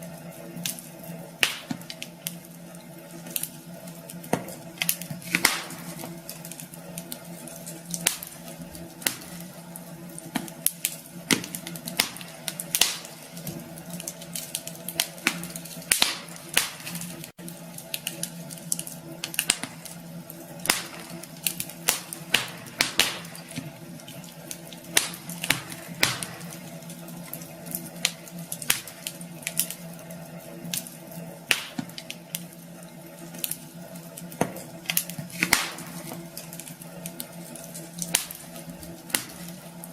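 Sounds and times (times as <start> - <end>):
steady low hum: 0.0 - 39.9
wood fire crackling and popping: 0.0 - 39.9.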